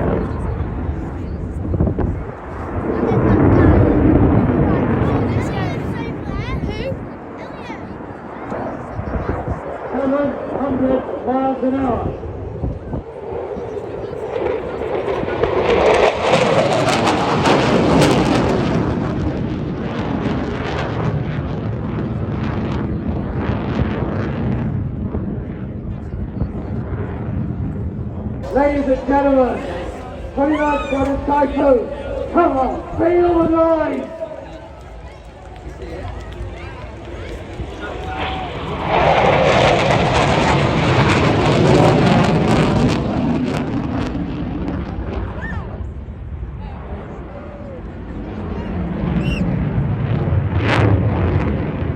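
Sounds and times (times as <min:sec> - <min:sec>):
jet passing by: 0:00.0 - 0:51.9.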